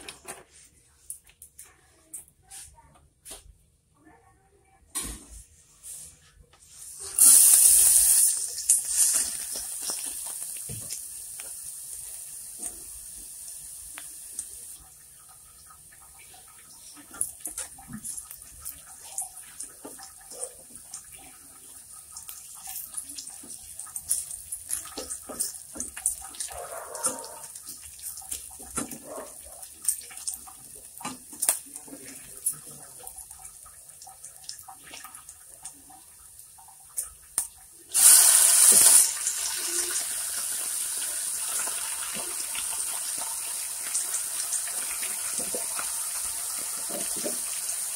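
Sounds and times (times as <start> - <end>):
garlic sizzling in hot oil: 6.8 - 47.9.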